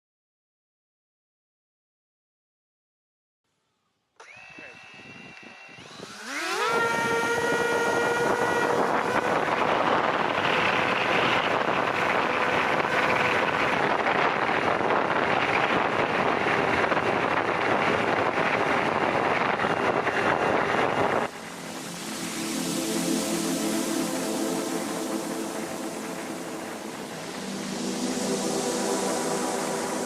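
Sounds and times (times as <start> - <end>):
electric motor propeller whine: 4.2 - 30.0
wind rush: 5.0 - 30.0.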